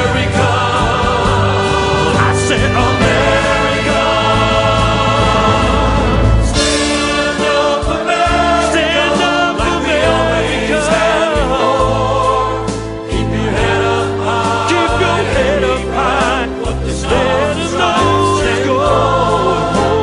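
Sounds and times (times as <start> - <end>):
band with steady bass line: 0.0 - 20.0
voices singing gospel-style song: 0.0 - 20.0.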